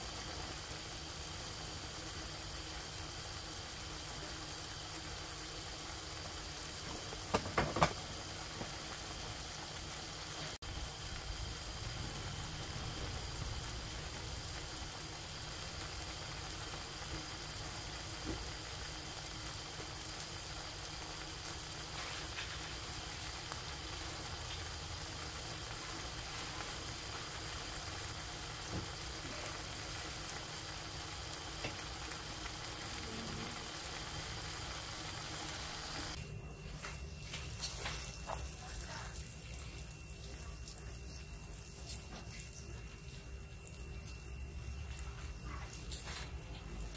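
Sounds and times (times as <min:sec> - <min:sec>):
paella sizzling and bubbling: 0:00.0 - 0:46.9.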